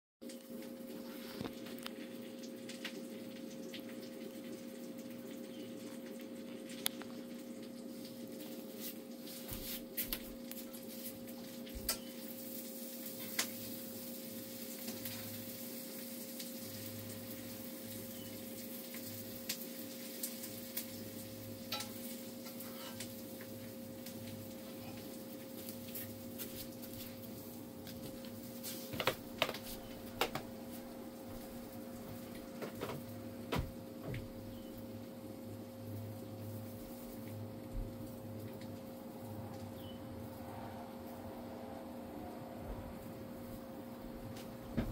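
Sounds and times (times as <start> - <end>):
low electrical hum: 0.2 - 44.9.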